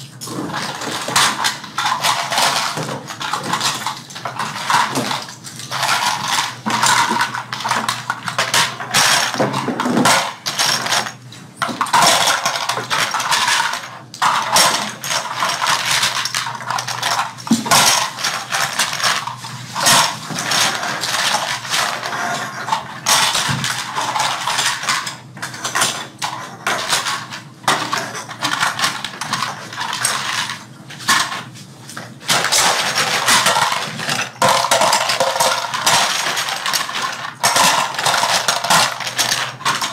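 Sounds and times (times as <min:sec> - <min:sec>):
toy plane parts clattering: 0:00.2 - 0:31.5, 0:32.2 - 0:39.9.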